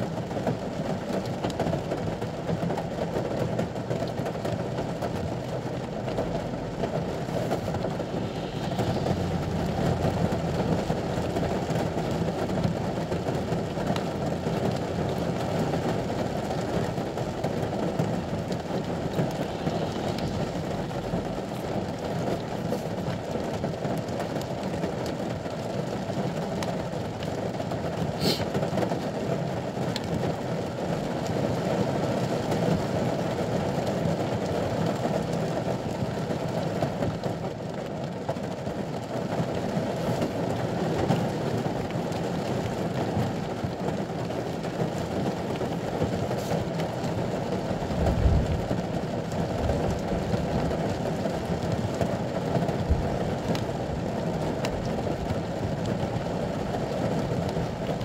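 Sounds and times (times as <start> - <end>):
rain pattering on vehicle roof: 0.0 - 58.0.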